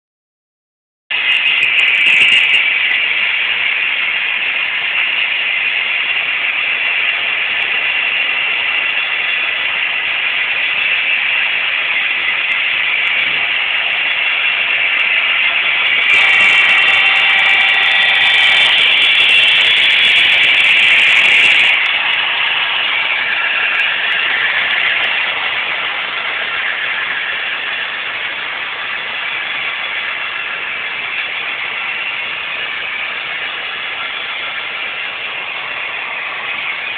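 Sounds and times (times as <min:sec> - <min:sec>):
model train motors whirring: 0:01.1 - 0:36.9.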